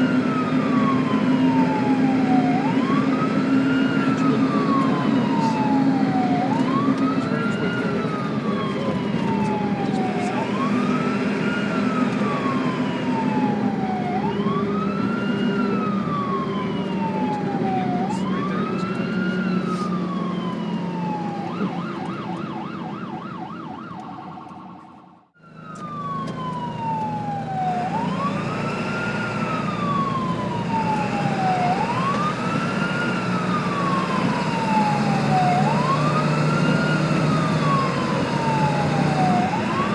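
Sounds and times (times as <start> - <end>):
ambulance siren wailing: 0.0 - 39.9
vehicle and road rumble: 0.0 - 39.9.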